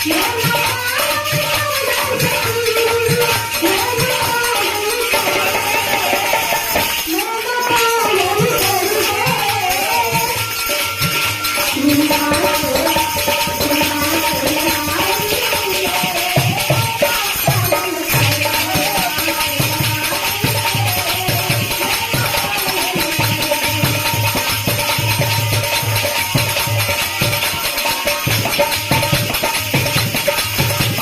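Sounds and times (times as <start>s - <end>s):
drum beating steady rhythm: 0.0s - 31.0s
jingling hand percussion: 0.0s - 31.0s.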